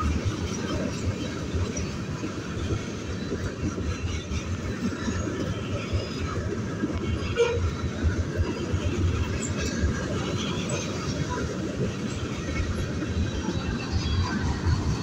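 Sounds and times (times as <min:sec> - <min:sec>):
freight train rumbling past: 0:00.0 - 0:15.0
steel wheels clacking on rails: 0:00.0 - 0:15.0.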